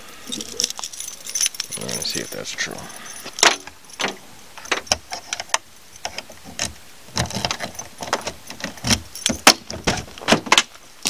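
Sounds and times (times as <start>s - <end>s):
car keys jangling: 0.2s - 10.3s.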